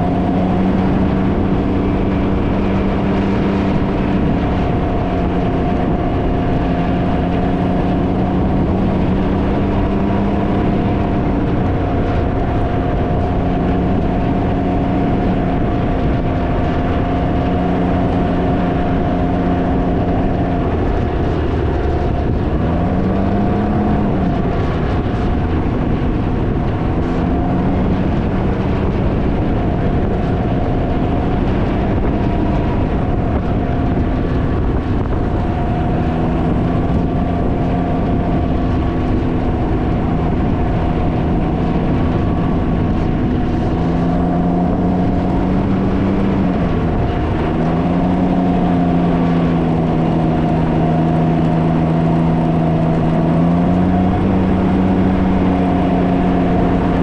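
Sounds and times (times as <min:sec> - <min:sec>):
engine running at cruise: 0:00.0 - 0:57.0
wind buffeting microphone: 0:00.0 - 0:57.0.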